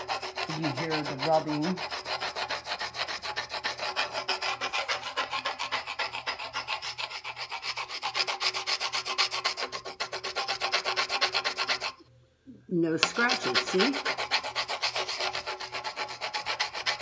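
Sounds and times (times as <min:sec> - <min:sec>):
paintbrush scrubbing on tabletop: 0:00.0 - 0:12.0, 0:13.0 - 0:17.0.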